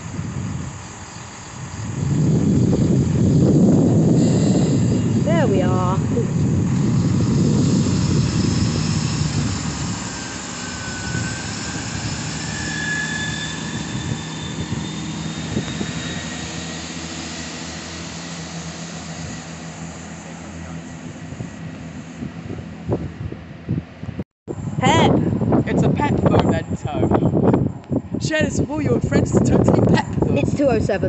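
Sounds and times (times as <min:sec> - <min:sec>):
train engine and wheel rumble: 0:00.0 - 0:31.0.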